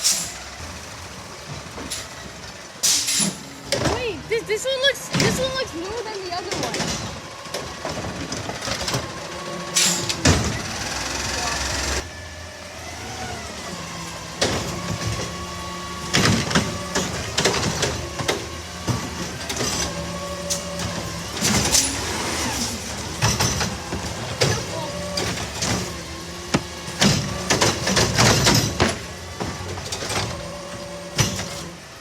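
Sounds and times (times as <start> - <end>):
bins and metal banging: 0.0 - 11.8, 13.4 - 31.9
garbage truck engine and hydraulics: 0.0 - 32.0.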